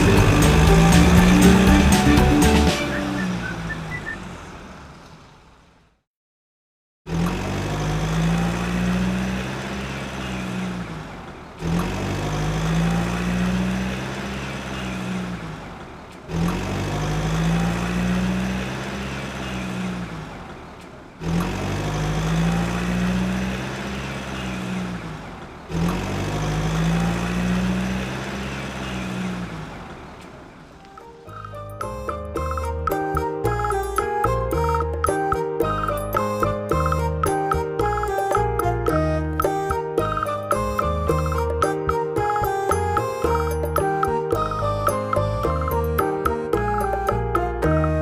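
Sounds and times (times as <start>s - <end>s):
vehicle engine running: 0.0s - 6.0s, 7.1s - 48.0s.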